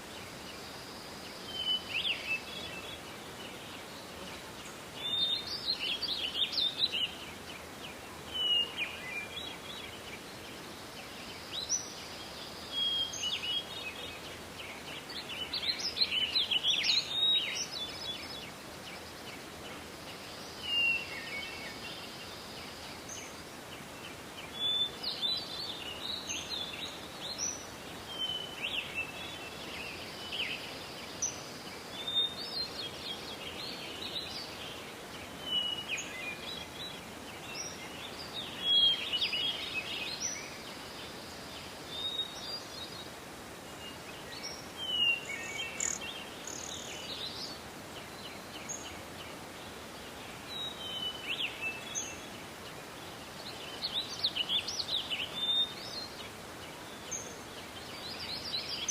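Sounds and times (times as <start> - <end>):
forest ambience hiss: 0.0 - 58.9
songbirds chirping and trilling: 0.0 - 58.9.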